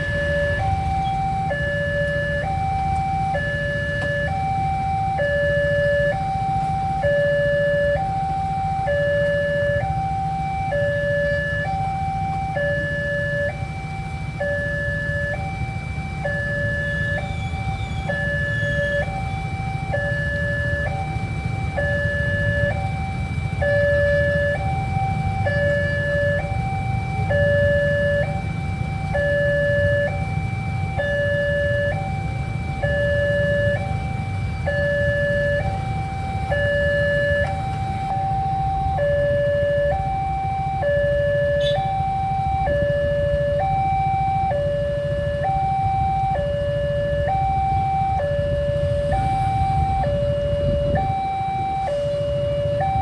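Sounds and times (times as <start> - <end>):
two-tone level crossing alarm: 0.0 - 53.0.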